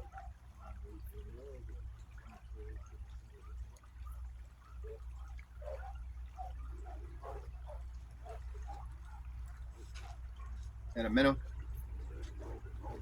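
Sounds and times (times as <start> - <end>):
creek water trickling: 0.0 - 13.0
water drips and splashes: 0.0 - 13.0.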